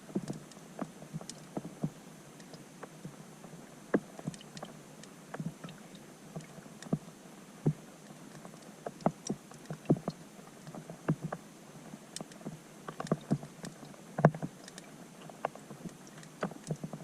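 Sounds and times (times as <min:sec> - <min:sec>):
raindrops on water underwater: 0:00.0 - 0:17.0.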